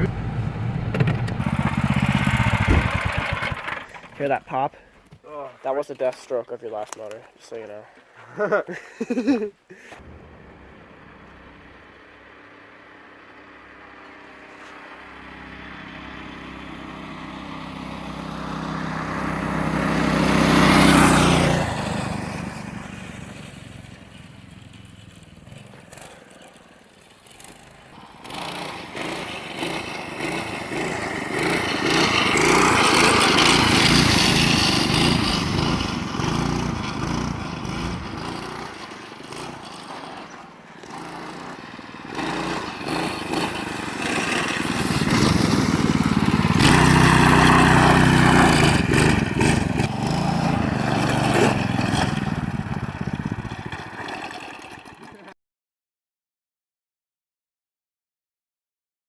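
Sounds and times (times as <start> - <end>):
mini bike engine passing by: 0.0 - 4.3, 10.0 - 55.4.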